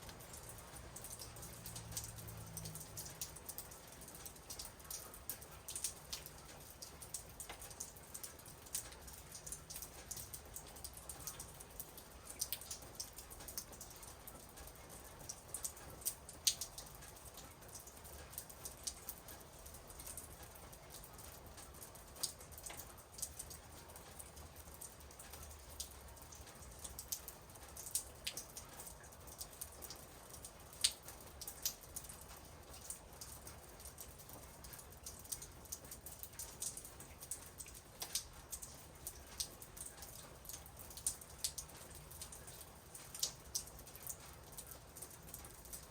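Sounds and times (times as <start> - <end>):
light rain falling: 0.0 - 45.9
raindrops ticking on surface: 0.0 - 45.9.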